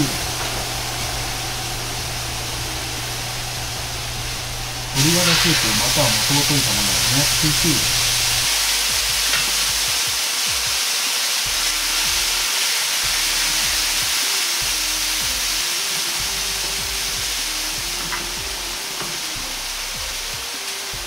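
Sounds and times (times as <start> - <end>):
sizzling hiss: 0.0 - 21.0
stock boiling in a wok: 0.0 - 21.0.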